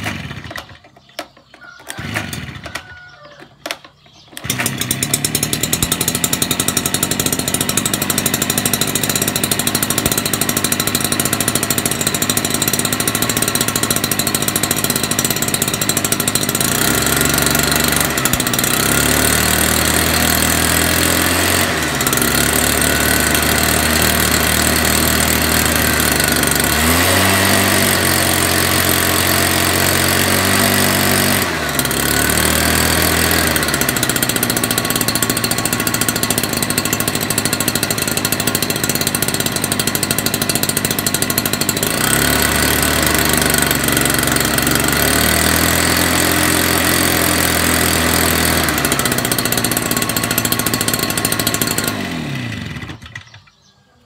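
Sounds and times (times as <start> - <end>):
two-stroke engine revving: 0.0 - 53.6.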